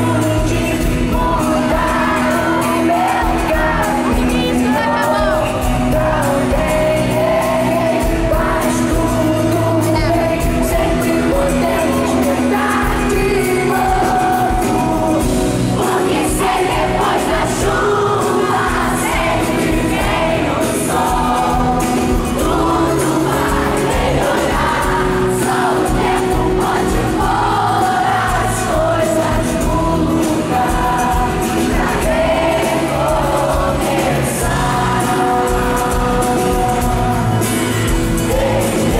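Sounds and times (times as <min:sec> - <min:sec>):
pop band playing live: 0:00.0 - 0:38.9
singers' voices: 0:00.0 - 0:38.9.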